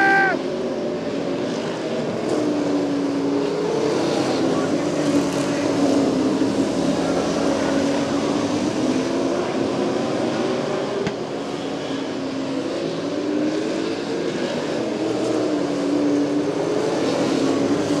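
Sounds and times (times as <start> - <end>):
stock car engines racing: 0.0 - 18.0.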